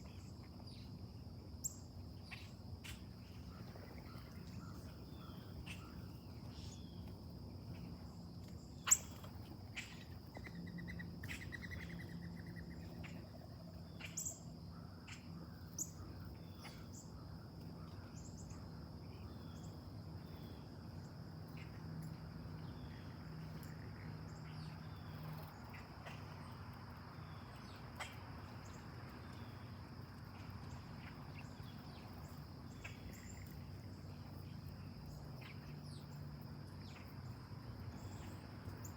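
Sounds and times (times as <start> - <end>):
insects droning: 0.0 - 38.9
low steady hum: 0.0 - 38.9.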